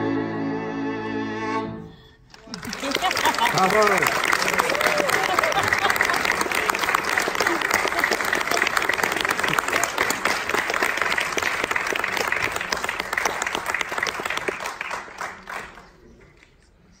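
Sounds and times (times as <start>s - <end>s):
audience applauding: 2.3s - 16.6s.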